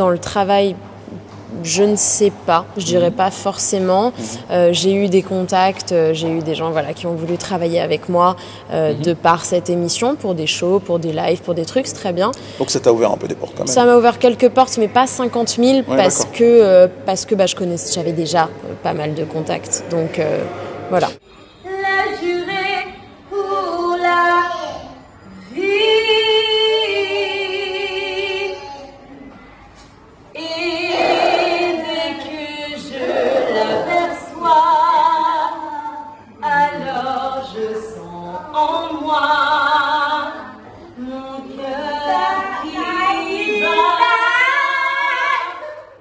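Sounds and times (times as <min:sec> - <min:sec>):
woman singing unaccompanied: 0:01.5 - 0:12.4, 0:13.8 - 0:24.7, 0:25.4 - 0:28.8, 0:30.4 - 0:45.8.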